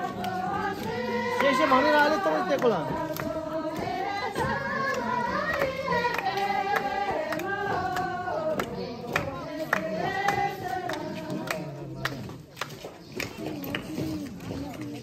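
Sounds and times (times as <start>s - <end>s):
men and women singing in unison: 0.0s - 12.5s.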